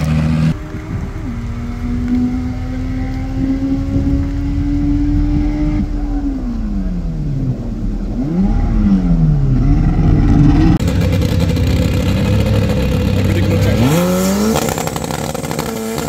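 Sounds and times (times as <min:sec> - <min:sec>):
car engine revving: 0:00.0 - 0:16.0
car engine running low: 0:00.0 - 0:16.0.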